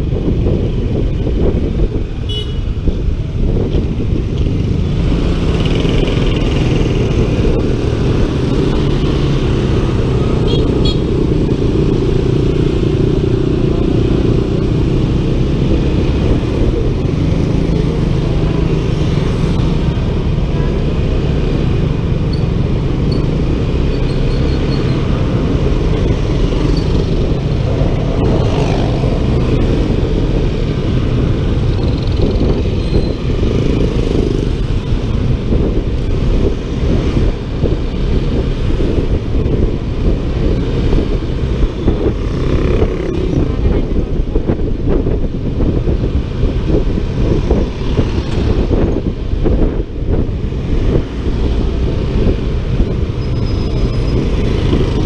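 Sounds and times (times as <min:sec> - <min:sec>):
road noise: 0:00.0 - 0:55.0
wind rush on microphone: 0:00.0 - 0:55.0.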